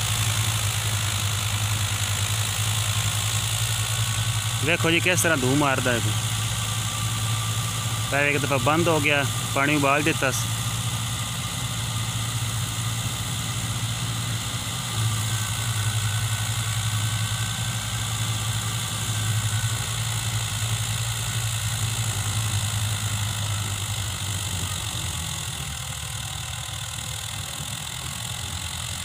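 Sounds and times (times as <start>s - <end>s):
diesel tractor engine labouring: 0.0s - 29.0s.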